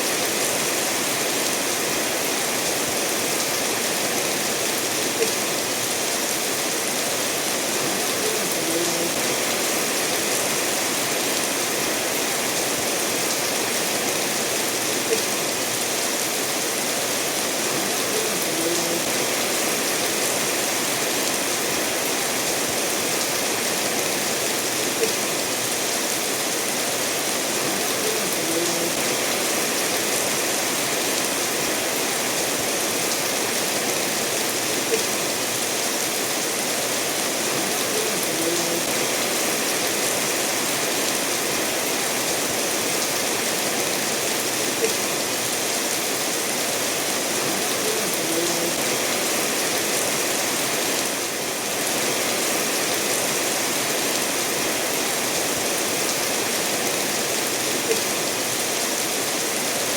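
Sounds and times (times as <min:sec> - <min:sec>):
steady rain falling: 0:00.0 - 0:59.9
stream running over stones: 0:00.0 - 0:59.9.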